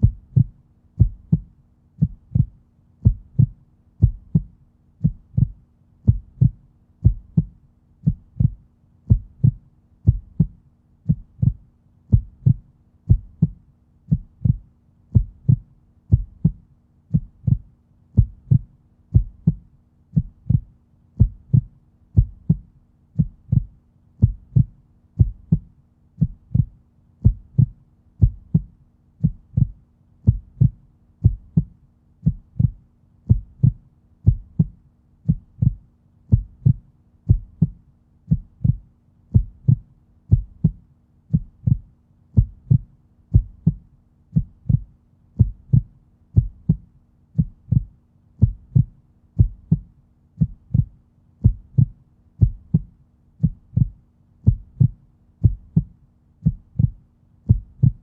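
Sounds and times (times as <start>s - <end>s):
faint steady hum: 0.0s - 58.0s
heartbeat: 0.0s - 58.0s.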